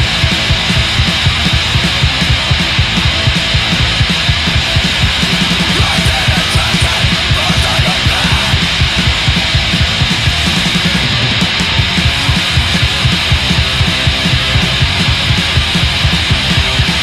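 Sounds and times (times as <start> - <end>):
distorted guitars: 0.0 - 17.0
fast driving drum beat: 0.0 - 17.0.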